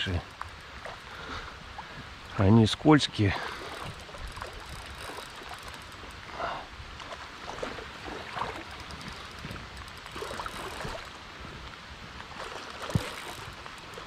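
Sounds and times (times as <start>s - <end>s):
wading splashes in water: 0.0s - 2.4s, 3.1s - 14.0s
river running over stones: 0.0s - 14.0s.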